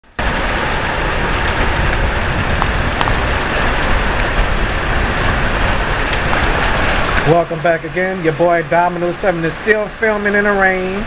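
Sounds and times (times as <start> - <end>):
steady rain falling: 0.0 - 11.0
raindrop ticks: 0.2 - 11.0.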